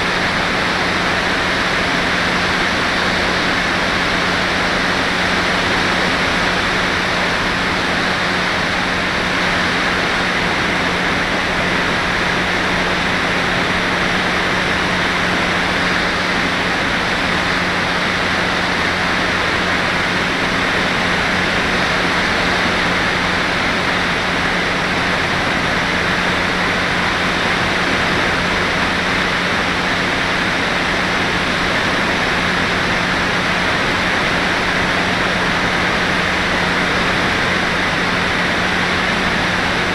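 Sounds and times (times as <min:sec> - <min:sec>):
rushing airflow: 0:00.0 - 0:39.9
steady low hum: 0:00.0 - 0:39.9.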